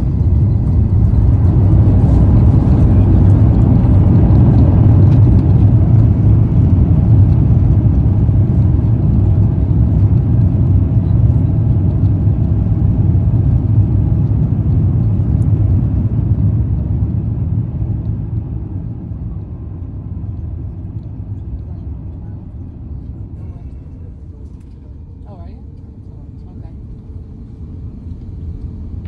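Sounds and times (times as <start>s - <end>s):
jet rumbling on runway: 0.0s - 29.0s.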